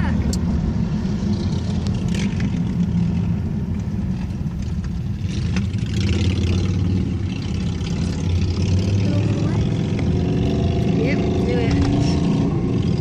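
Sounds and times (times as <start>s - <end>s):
car engine drone in cabin: 0.0s - 13.0s.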